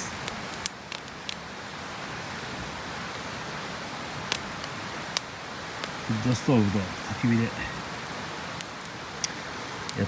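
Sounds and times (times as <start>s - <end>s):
campfire crackling: 0.0s - 10.0s
steady hiss: 0.0s - 10.0s.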